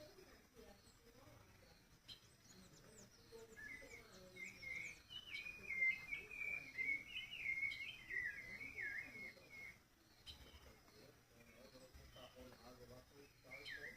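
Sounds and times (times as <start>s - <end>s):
faint high chirps: 0.0s - 13.9s
songbird singing: 0.0s - 13.9s.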